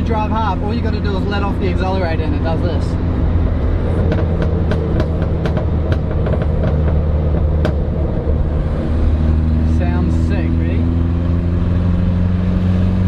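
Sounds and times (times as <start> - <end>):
exhaust popping and crackling: 0.0 - 11.3
engine low drone: 0.0 - 13.0.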